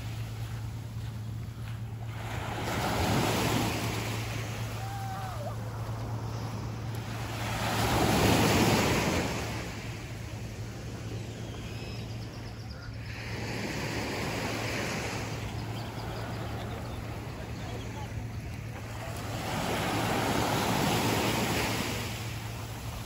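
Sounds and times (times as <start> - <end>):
small waves washing on beach: 0.0 - 11.0, 12.9 - 23.0.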